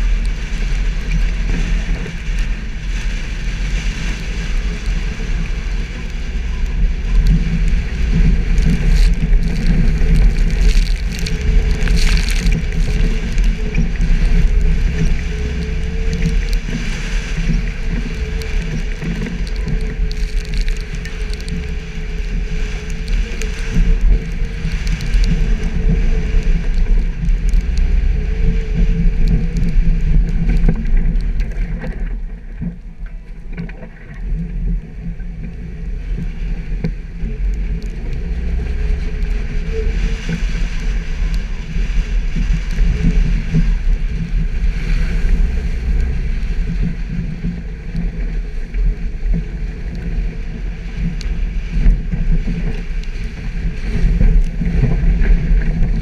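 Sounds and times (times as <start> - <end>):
car engine running off-road: 0.0 - 56.0.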